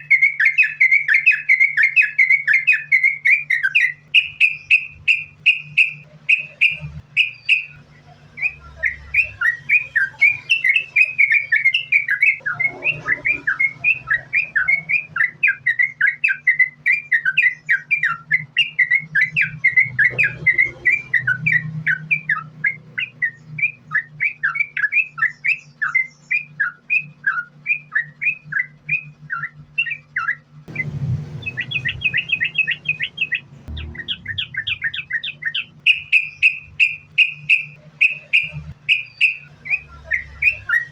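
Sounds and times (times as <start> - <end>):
bird singing fast chirps: 0.0 - 40.9
steady low hum: 0.0 - 40.9.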